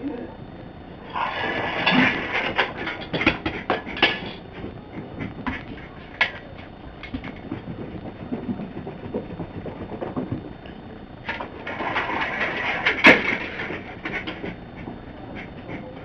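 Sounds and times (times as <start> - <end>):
dog scrambling on carpeted stairs: 1.6 - 16.0.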